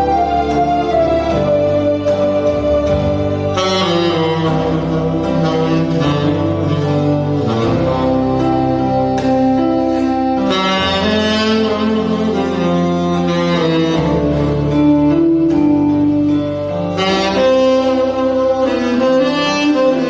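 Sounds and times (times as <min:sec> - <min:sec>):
backing track with bass and strings: 0:00.0 - 0:20.0
saxophone playing slow melody: 0:00.0 - 0:20.0.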